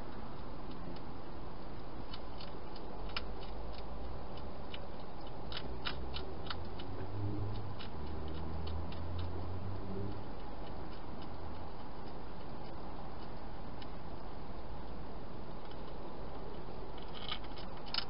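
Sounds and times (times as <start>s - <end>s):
hedgehog crunching dry food: 1.7s - 14.0s, 15.6s - 18.0s.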